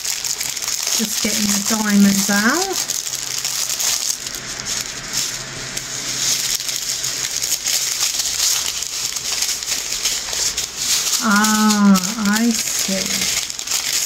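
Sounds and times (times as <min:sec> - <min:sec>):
thin plastic crinkling: 0:00.0 - 0:14.0.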